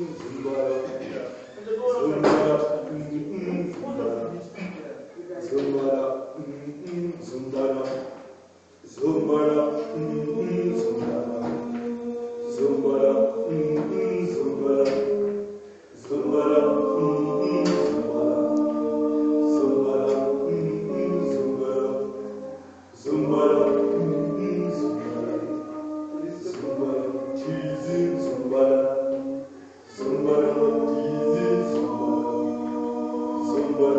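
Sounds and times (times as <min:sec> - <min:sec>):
choir singing: 0:00.0 - 0:04.7, 0:05.4 - 0:33.9.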